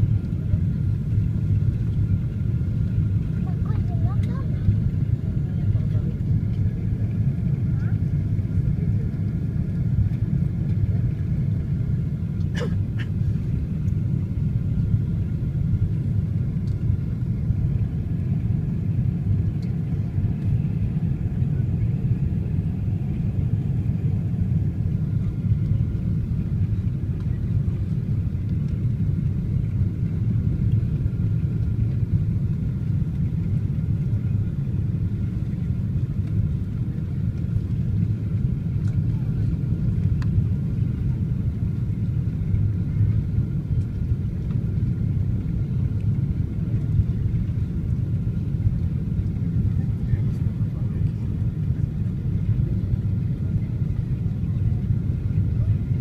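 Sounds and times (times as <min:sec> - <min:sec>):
aircraft cabin rumble: 0:00.0 - 0:56.0
faint steady whine: 0:00.0 - 0:56.0.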